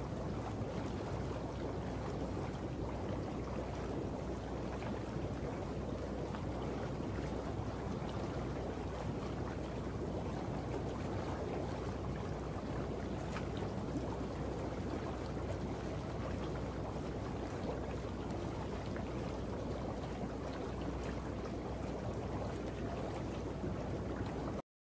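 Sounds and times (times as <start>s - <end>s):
water boiling and bubbling: 0.0s - 24.6s.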